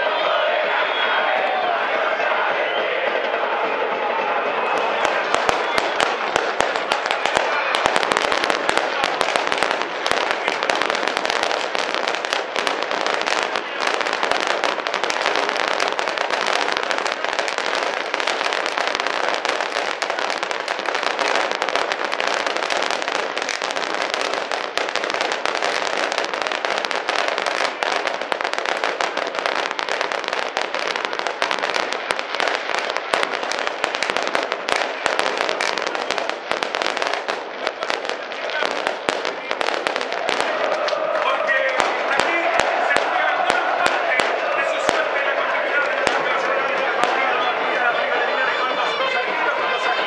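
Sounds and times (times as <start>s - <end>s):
firecrackers crackling: 0.0s - 50.0s
stadium crowd noise: 0.0s - 50.0s.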